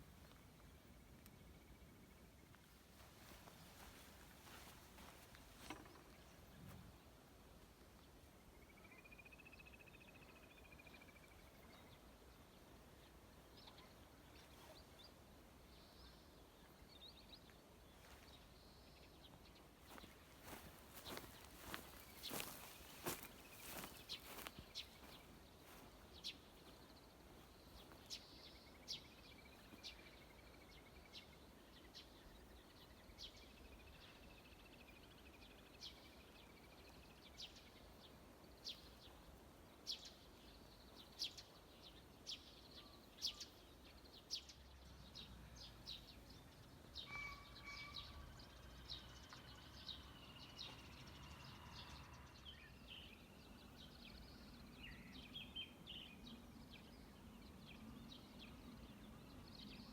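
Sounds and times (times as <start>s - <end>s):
distant bird song: 0.0s - 59.9s.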